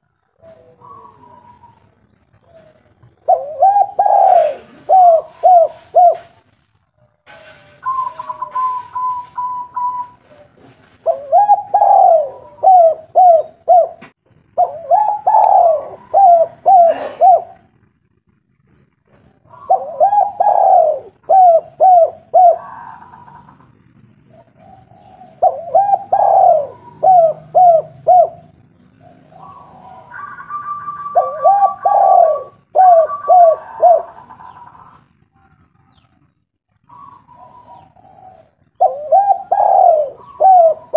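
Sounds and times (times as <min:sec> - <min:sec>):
dove cooing: 0:00.1 - 0:06.4, 0:07.8 - 0:17.8, 0:19.4 - 0:35.1, 0:36.8 - 0:40.9.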